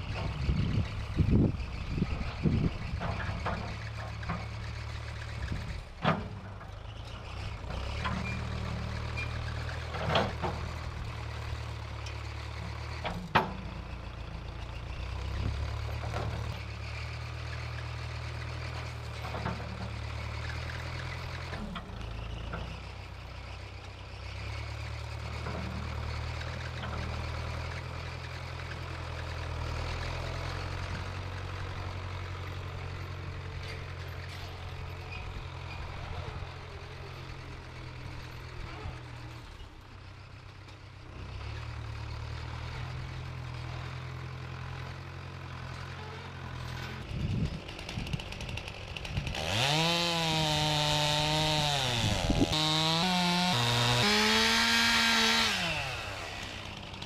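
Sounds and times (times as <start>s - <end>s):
backhoe engine running: 0.0s - 57.0s.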